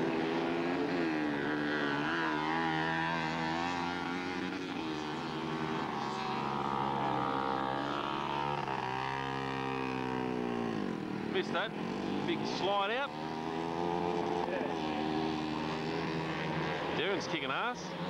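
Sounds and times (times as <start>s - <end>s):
mini bike engines revving: 0.0s - 18.0s.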